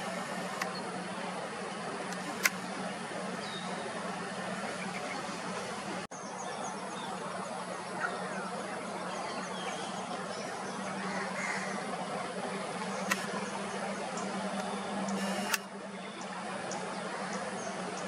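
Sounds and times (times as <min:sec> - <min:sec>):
constant low hum: 0:00.0 - 0:18.0.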